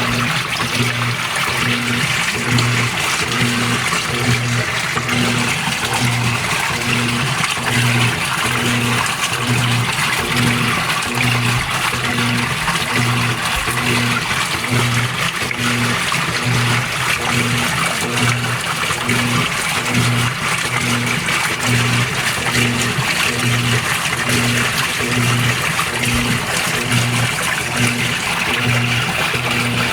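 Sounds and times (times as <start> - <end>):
washer motor hum pulsing: 0.0 - 29.9
water sloshing in tub: 0.0 - 29.9.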